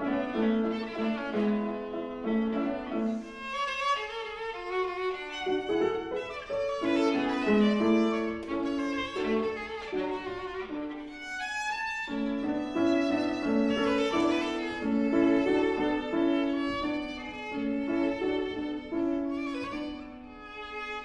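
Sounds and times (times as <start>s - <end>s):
viola melody: 0.0s - 21.0s.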